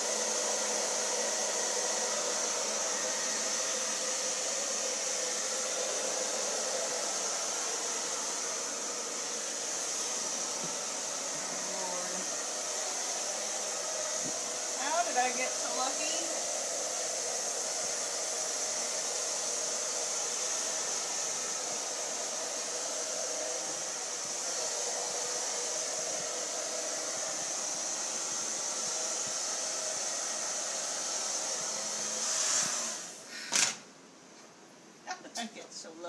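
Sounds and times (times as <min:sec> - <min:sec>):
hair dryer blowing: 0:00.0 - 0:34.0.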